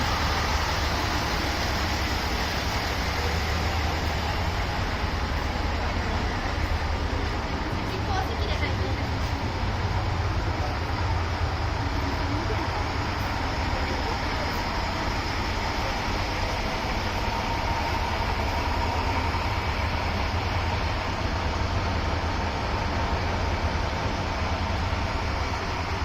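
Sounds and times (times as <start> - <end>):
diesel train rumble: 0.0 - 26.0.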